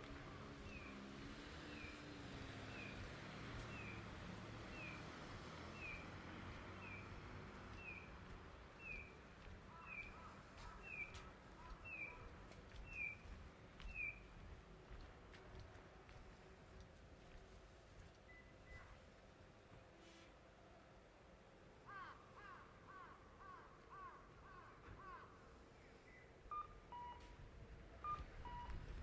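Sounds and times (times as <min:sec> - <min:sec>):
faint low street hum: 0:00.0 - 0:29.0.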